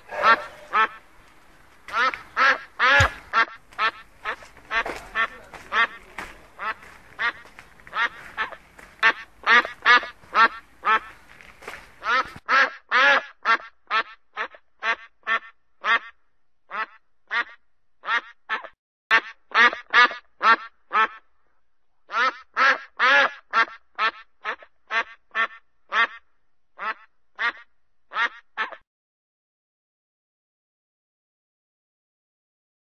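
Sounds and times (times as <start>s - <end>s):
quacking calls: 0.0s - 21.3s, 22.1s - 28.8s.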